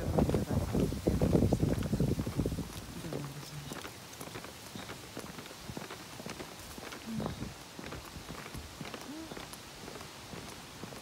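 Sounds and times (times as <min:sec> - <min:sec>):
footsteps on a path: 0:00.0 - 0:11.0.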